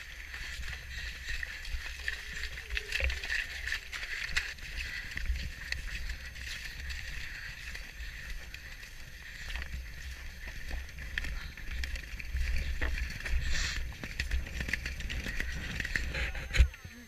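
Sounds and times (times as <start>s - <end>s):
thudding hoofbeats: 0.0s - 16.6s
rattling tack: 0.0s - 16.7s
wind buffeting microphone: 0.0s - 16.7s.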